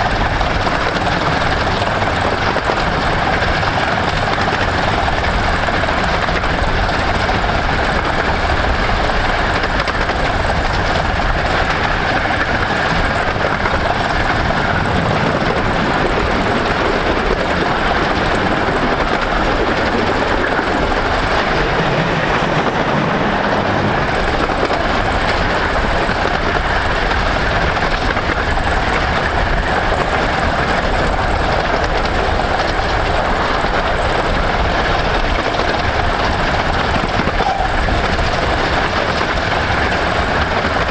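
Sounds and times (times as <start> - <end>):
miniature steam train rumbling: 0.0 - 40.9.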